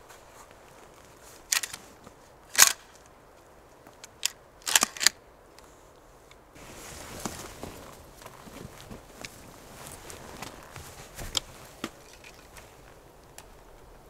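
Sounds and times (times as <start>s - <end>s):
rustling clicks and crackles: 0.0s - 3.2s, 3.9s - 14.0s.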